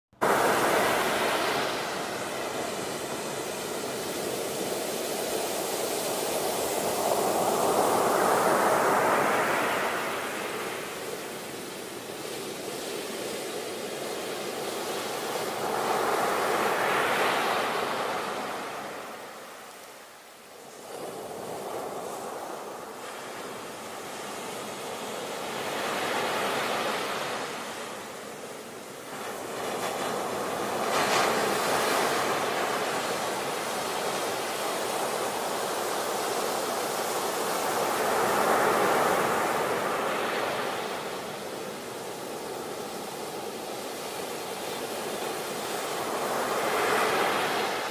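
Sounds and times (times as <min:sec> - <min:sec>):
waves breaking on beach: 0:00.2 - 0:47.9.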